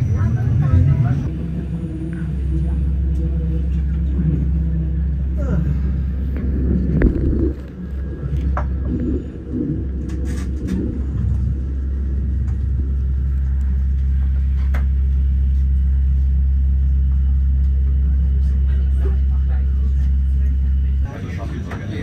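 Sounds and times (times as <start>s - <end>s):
train rumbling from inside carriage: 0.0s - 22.0s.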